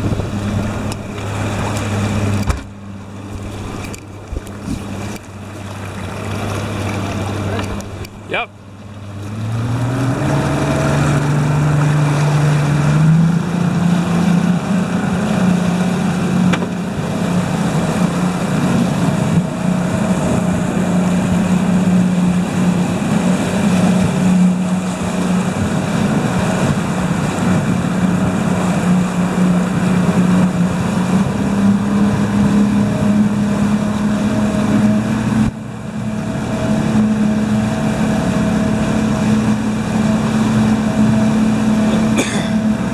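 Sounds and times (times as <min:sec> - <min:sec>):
boat engine running: 0:00.0 - 0:42.9.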